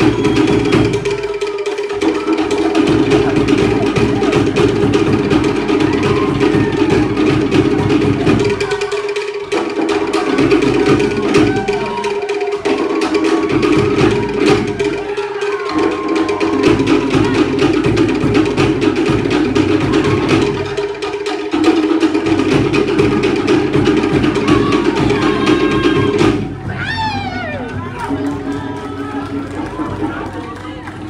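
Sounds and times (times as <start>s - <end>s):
bass drum: 0.0s - 30.2s
slit log drums: 0.0s - 31.0s.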